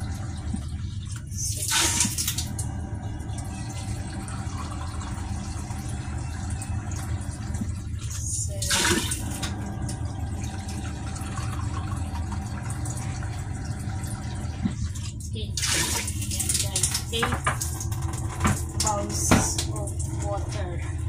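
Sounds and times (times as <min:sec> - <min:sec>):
steady low hum: 0:00.0 - 0:21.0
water pouring into metal pot: 0:00.0 - 0:21.0.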